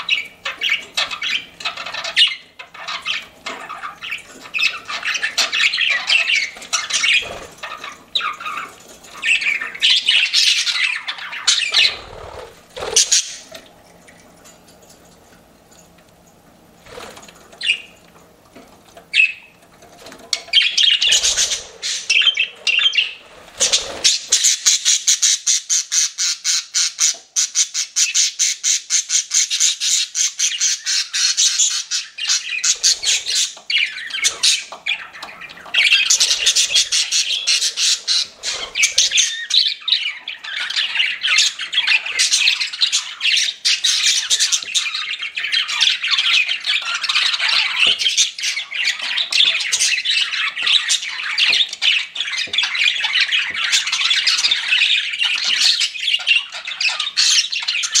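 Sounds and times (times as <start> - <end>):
budgerigars chattering: 0.0 - 13.5, 20.4 - 58.0.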